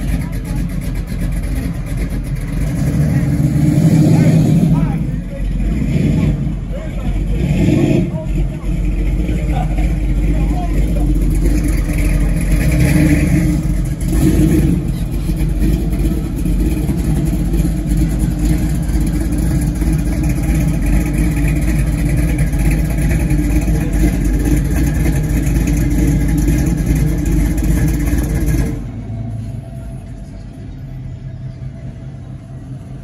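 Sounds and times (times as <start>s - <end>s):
car engine running and revving: 0.0s - 33.0s.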